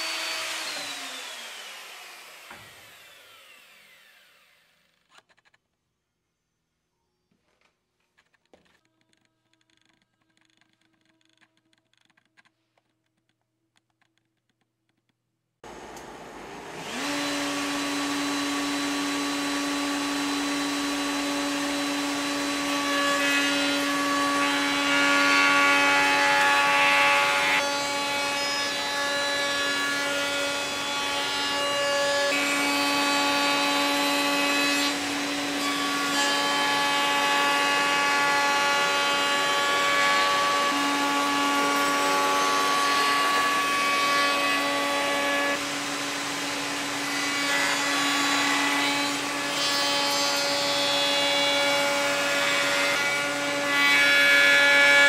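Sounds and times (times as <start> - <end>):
router bit cutting wood: 0.0 - 5.6, 15.7 - 55.0
wood router whine: 0.0 - 5.6, 15.6 - 55.0.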